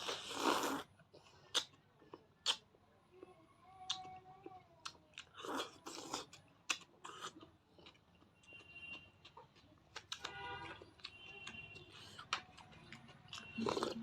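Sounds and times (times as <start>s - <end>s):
person chewing and crunching food: 0.0s - 2.7s, 4.8s - 14.0s.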